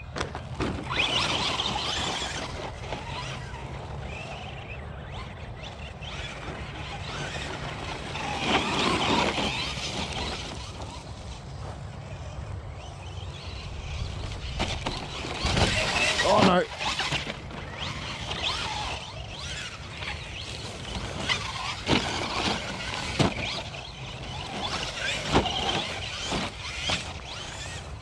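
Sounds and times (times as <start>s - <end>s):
rc car motor and tyres: 0.0s - 28.0s.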